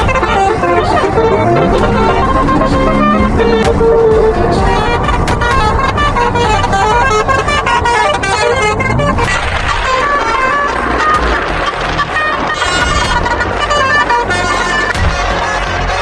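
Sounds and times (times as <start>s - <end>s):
multi-tone bus horn tune: 0.0s - 16.0s
rushing noise: 0.0s - 16.0s.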